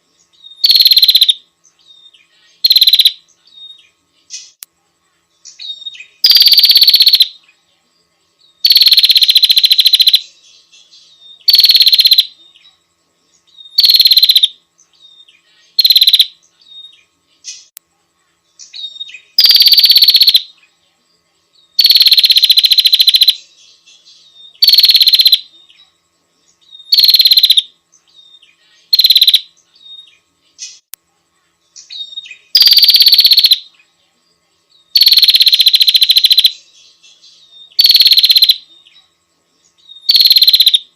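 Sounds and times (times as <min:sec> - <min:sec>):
bird buzzing rattle calls: 0:00.0 - 0:04.6, 0:05.4 - 0:07.5, 0:08.6 - 0:12.7, 0:13.4 - 0:17.8, 0:18.6 - 0:20.7, 0:21.7 - 0:30.9, 0:31.7 - 0:33.9, 0:34.9 - 0:40.9.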